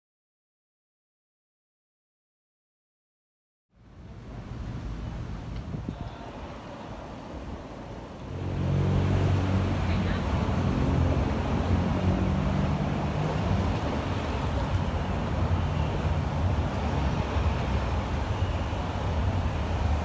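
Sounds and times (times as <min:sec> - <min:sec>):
city road traffic rumble: 0:03.8 - 0:20.0.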